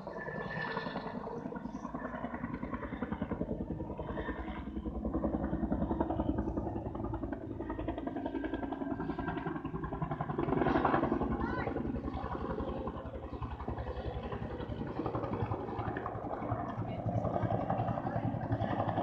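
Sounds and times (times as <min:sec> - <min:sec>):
helicopter rotor blades chopping: 0:00.0 - 0:19.0.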